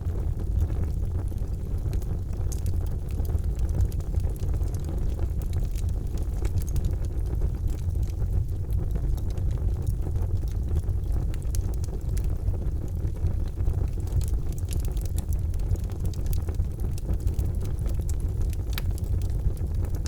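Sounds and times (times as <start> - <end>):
fire crackling and popping: 0.0 - 20.0
fire low rumble: 0.0 - 20.0.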